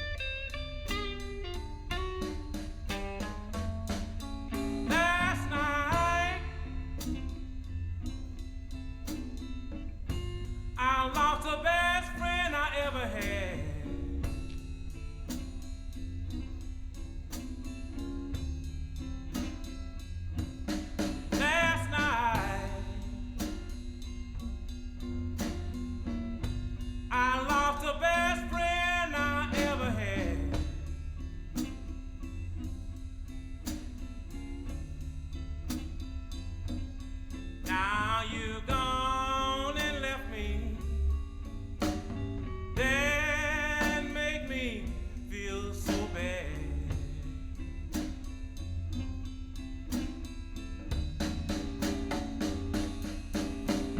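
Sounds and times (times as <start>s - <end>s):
blues song with band: 0.0s - 53.9s.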